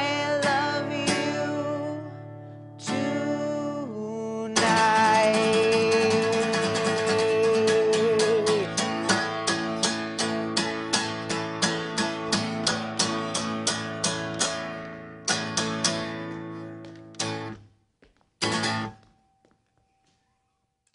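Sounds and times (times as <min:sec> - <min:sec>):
acoustic guitar strumming: 0:00.0 - 0:17.7, 0:18.4 - 0:20.1.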